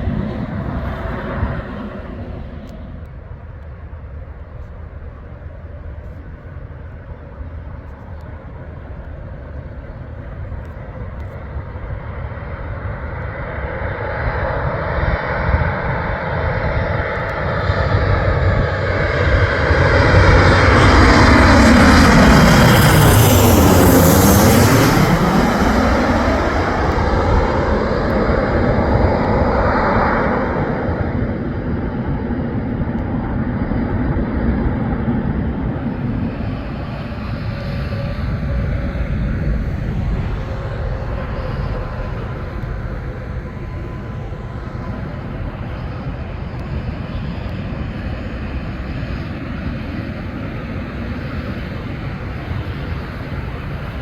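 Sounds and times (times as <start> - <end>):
aircraft passing close by: 0.0 - 54.0.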